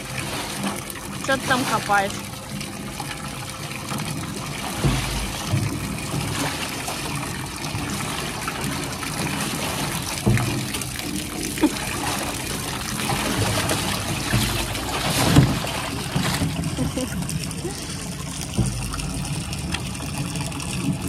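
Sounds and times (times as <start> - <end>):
hose water pouring into pool: 0.0 - 21.0
lion splashing in water: 4.0 - 21.0.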